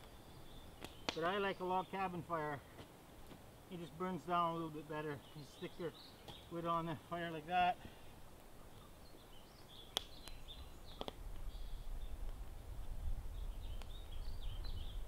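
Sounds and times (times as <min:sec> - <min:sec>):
small birds chirping: 0:00.0 - 0:12.4, 0:13.1 - 0:15.0.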